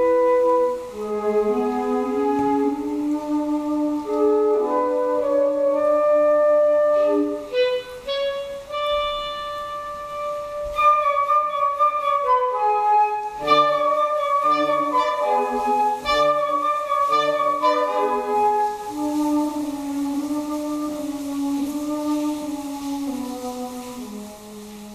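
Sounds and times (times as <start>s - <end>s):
clarinet: 0.0s - 24.9s
flutes playing sustained notes: 0.0s - 24.9s.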